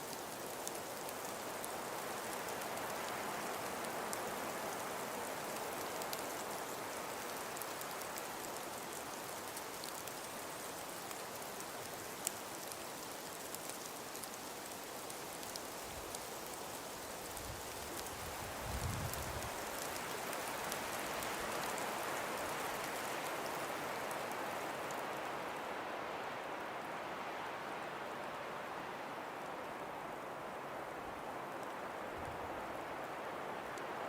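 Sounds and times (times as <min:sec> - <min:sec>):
faint ticks of snow: 0:00.0 - 0:34.0
wind hiss: 0:00.0 - 0:34.0.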